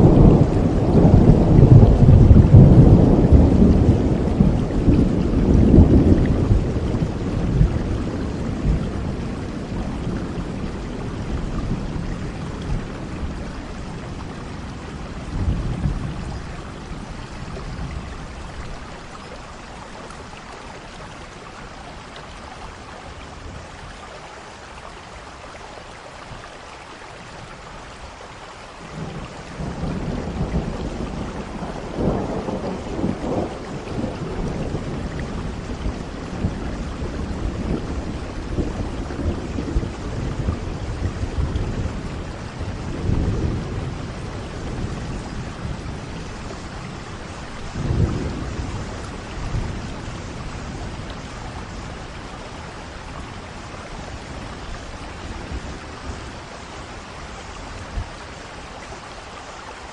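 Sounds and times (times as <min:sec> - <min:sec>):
thunder rumbling: 0:00.0 - 0:24.0, 0:28.8 - 0:58.4
steady rain: 0:00.0 - 0:59.9.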